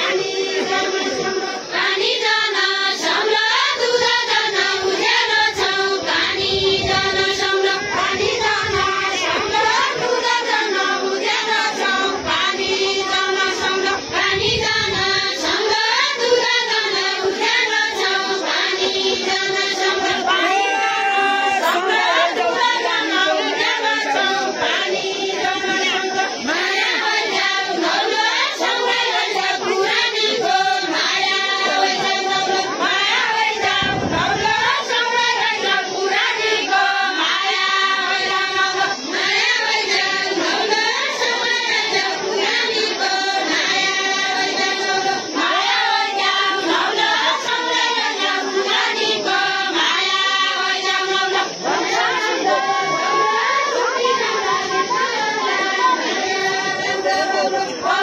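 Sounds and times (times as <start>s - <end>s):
women singing unaccompanied: 0.0s - 58.0s.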